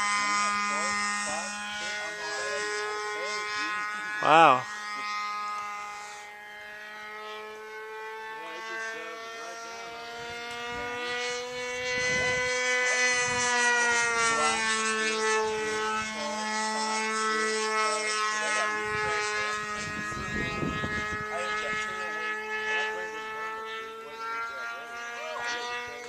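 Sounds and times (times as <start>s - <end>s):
model airplane motor whining: 0.0s - 26.0s.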